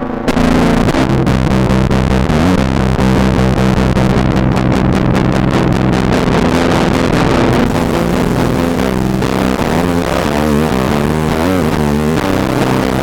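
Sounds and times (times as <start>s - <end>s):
distorted electric guitar notes: 0.0s - 13.0s.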